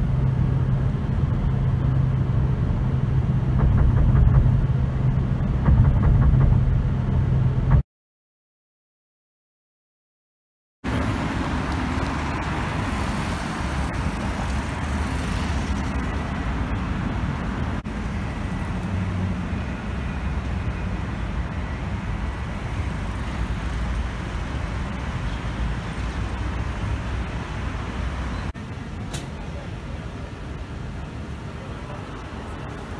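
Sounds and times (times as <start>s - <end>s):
road and traffic noise: 0.0s - 7.8s, 10.8s - 32.9s.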